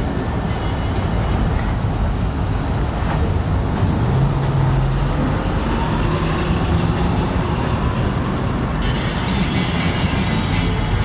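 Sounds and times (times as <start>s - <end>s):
engine hum: 0.0s - 11.0s
train rumbling over bridge: 0.0s - 11.0s.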